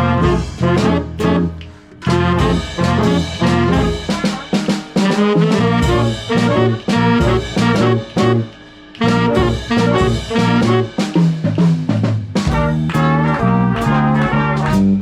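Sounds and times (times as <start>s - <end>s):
swing band playing: 0.0s - 15.0s.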